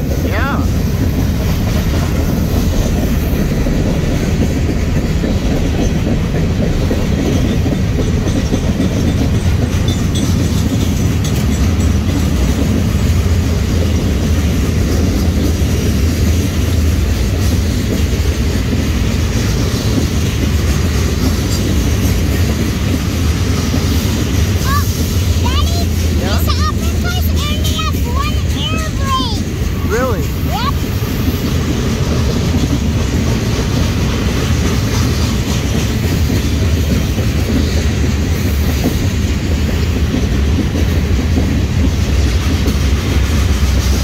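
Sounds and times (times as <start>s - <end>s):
freight train wheels rumbling: 0.0s - 44.0s.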